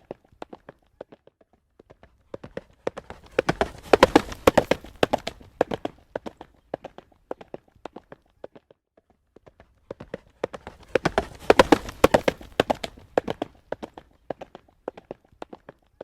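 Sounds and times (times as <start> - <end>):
hooves trotting on pavement: 0.0 - 16.0.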